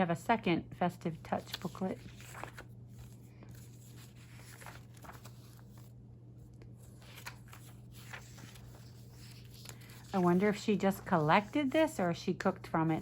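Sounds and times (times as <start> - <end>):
paper pages rustling: 1.2 - 13.0.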